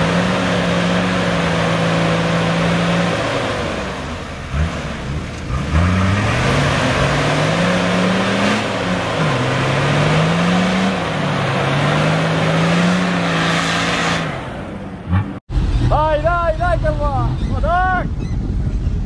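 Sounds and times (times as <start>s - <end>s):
engine revving under load: 0.0s - 15.9s.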